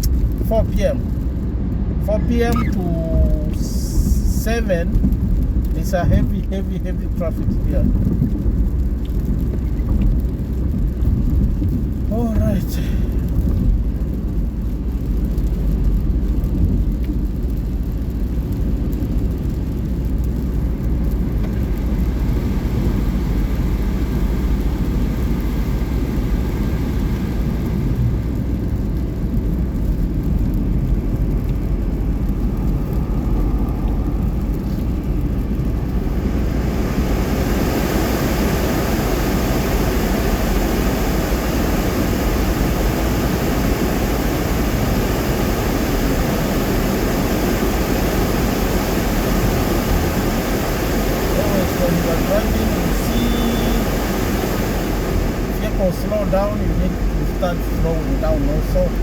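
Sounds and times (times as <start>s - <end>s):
road and engine rumble in car: 0.0s - 59.0s.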